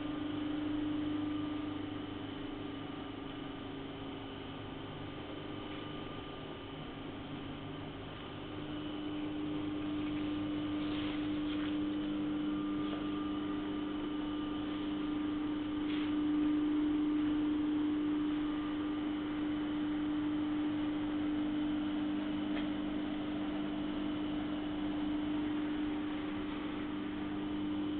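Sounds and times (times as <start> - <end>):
electric motor hum: 4.8 - 27.9.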